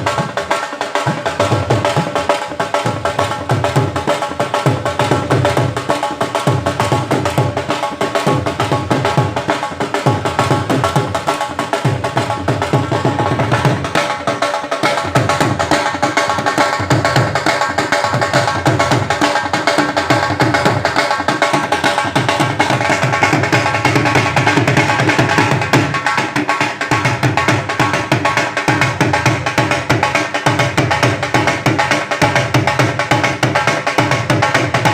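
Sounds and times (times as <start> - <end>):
fast drum percussion: 0.0 - 34.9.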